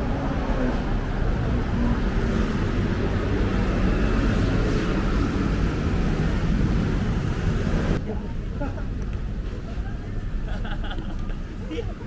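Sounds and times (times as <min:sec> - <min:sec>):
buses running: 0:00.0 - 0:12.0
cars running: 0:00.0 - 0:12.0.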